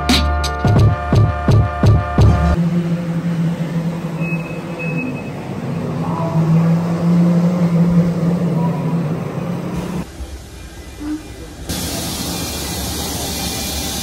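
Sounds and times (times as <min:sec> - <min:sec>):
road noise: 0:00.7 - 0:14.0
vehicle engine hum: 0:01.8 - 0:14.0.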